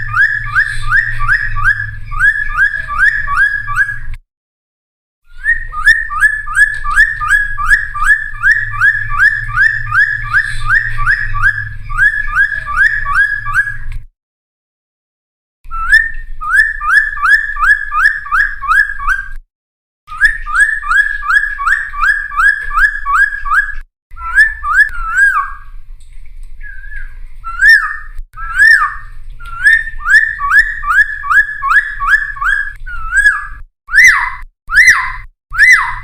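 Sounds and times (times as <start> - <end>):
bird singing whistled notes: 0.0 - 4.1, 5.3 - 13.9, 15.7 - 19.4, 20.1 - 25.7, 26.6 - 36.0.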